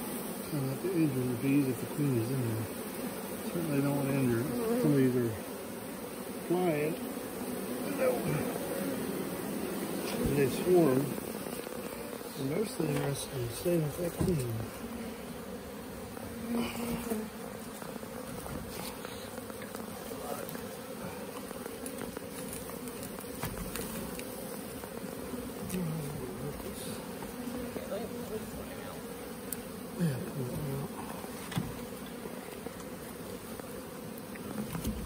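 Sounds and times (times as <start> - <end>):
bee swarm buzzing: 0.0 - 35.0
single bee buzzing past: 0.0 - 35.0.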